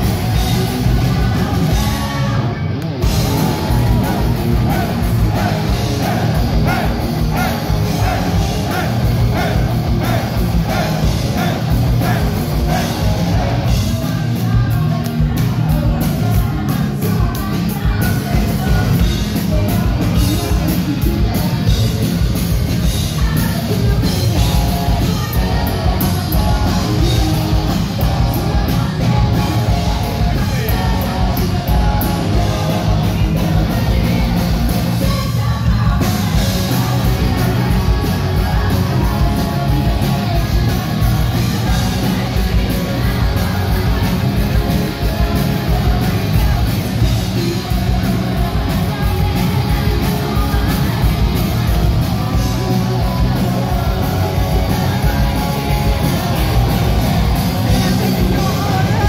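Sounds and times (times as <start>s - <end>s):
bass guitar: 0.0s - 59.0s
distorted electric guitars: 0.0s - 59.0s
fast driving drum beat: 0.0s - 59.0s.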